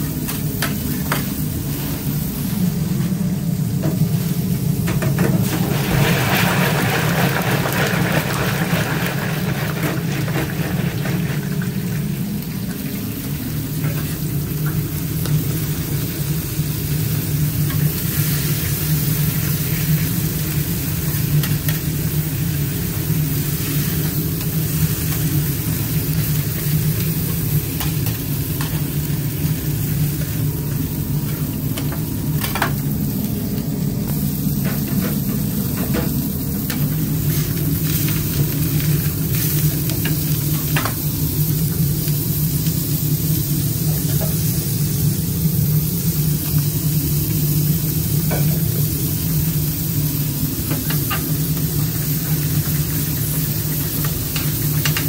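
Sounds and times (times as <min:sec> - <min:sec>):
fries hissing in hot oil: 0:00.0 - 0:55.0.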